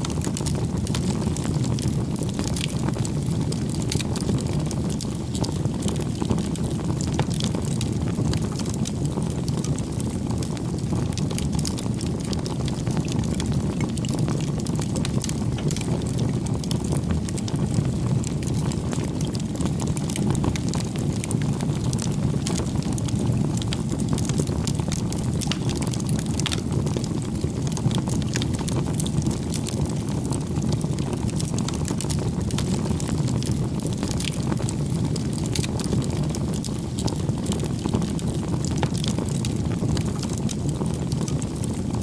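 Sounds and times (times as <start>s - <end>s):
burning wood popping and crackling: 0.0s - 42.0s
low rumble of flames: 0.0s - 42.0s.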